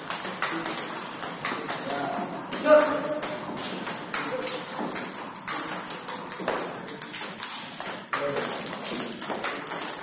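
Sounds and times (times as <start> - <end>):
table tennis ball clicking: 0.0 - 10.0.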